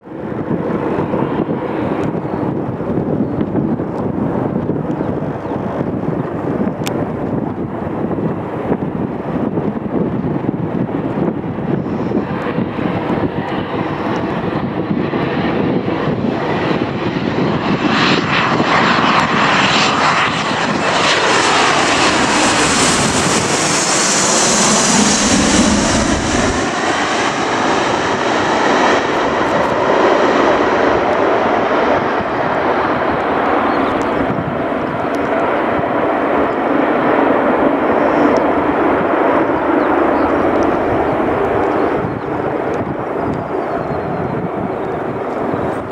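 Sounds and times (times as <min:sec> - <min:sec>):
jet airliner passing by: 0:00.0 - 0:45.9.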